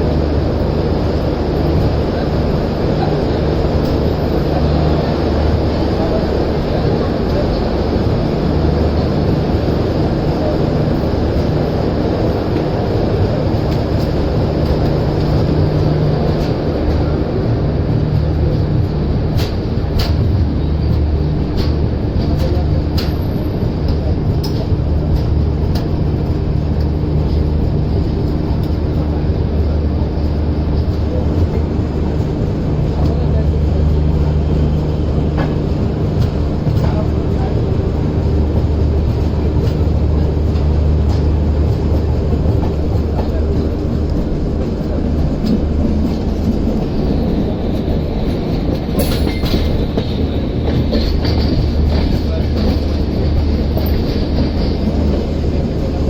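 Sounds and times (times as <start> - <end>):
train rumbling on track: 0.0 - 56.0
train wheels clacking: 0.0 - 56.0.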